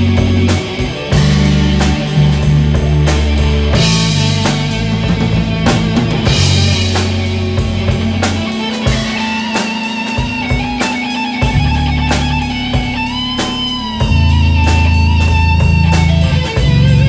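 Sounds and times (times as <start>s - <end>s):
bass guitar: 0.0s - 17.0s
drum kit beat: 0.0s - 17.0s
electric guitar sustained notes: 0.0s - 17.0s.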